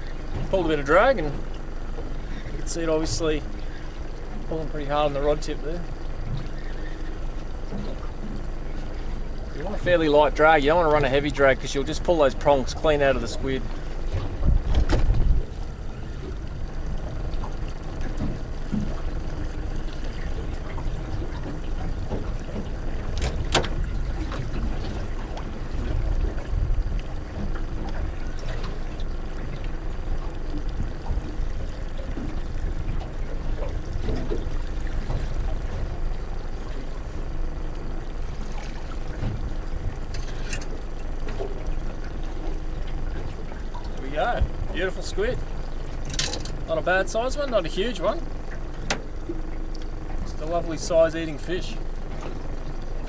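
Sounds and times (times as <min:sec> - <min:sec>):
outboard motor running low: 0:00.0 - 0:53.0
water sloshing against hull: 0:00.0 - 0:53.0
wind-like rumble: 0:00.0 - 0:53.0.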